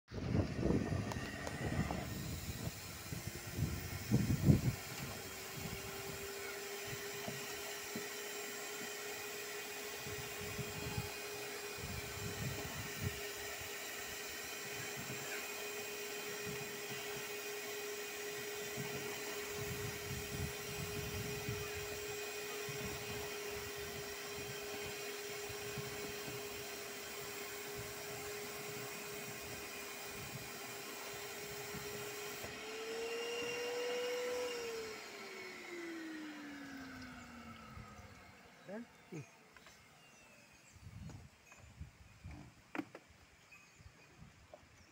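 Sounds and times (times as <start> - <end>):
vacuum cleaner sucking water: 0.1 - 38.6
motor winding down whine: 0.1 - 44.3.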